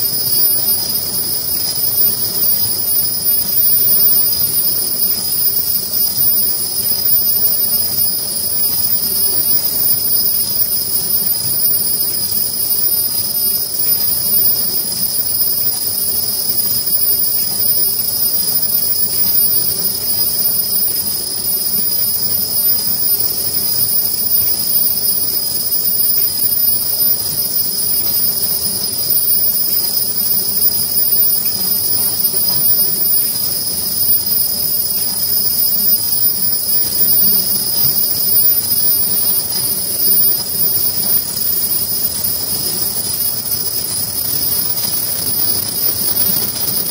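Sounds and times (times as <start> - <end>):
machine high-pitched whine: 0.0 - 46.9
mechanical hum: 0.0 - 46.9.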